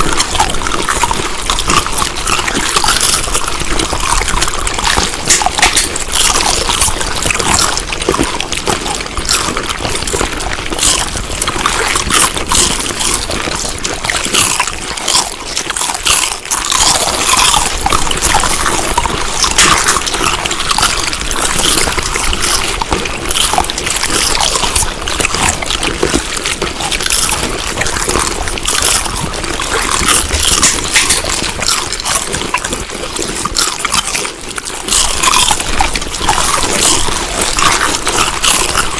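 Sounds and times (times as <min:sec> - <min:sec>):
chewing food: 0:00.0 - 0:38.9.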